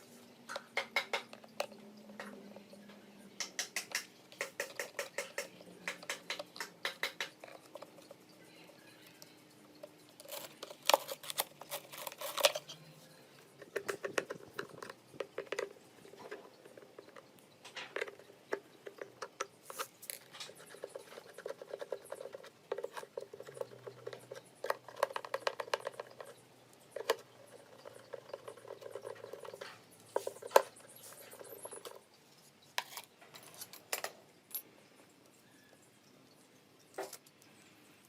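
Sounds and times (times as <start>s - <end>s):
faint steady hum: 0.0s - 38.0s
hard objects clicking and rattling: 0.5s - 34.7s.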